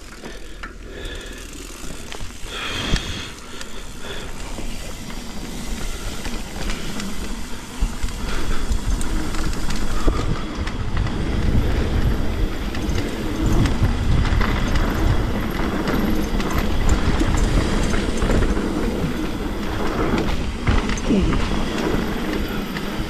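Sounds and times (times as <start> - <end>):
bike rattles and knocks: 0.0 - 23.0
bike tyres rumbling over ground: 0.0 - 23.0.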